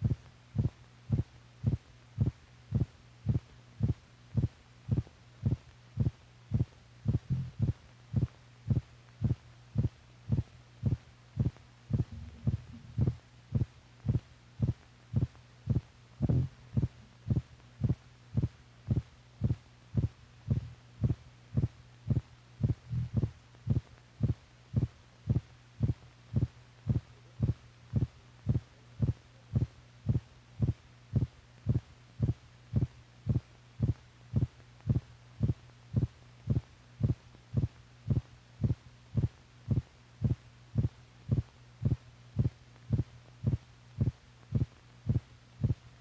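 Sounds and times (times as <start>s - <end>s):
heartbeat thuds: 0.0s - 45.8s
low hum: 0.0s - 46.0s.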